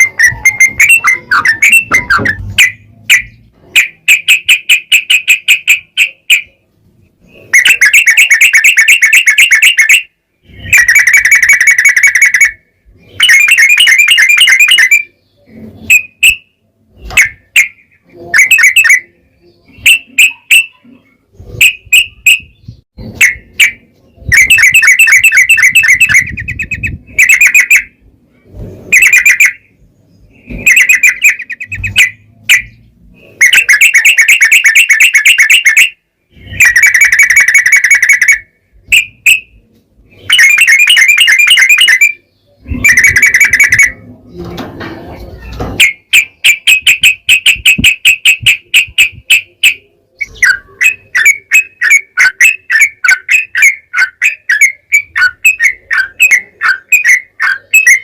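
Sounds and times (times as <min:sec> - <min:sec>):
bulbul chirping and trilling: 0:00.0 - 0:28.1, 0:28.8 - 0:44.6, 0:45.4 - 0:58.0.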